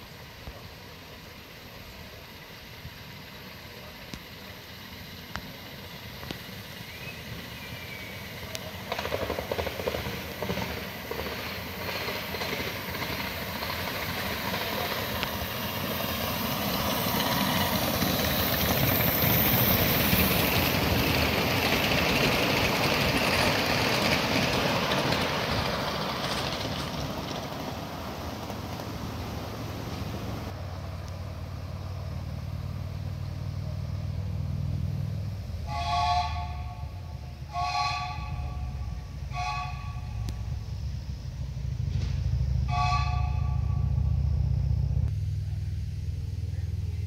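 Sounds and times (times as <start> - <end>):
miniature steam train passing: 0.0 - 47.0.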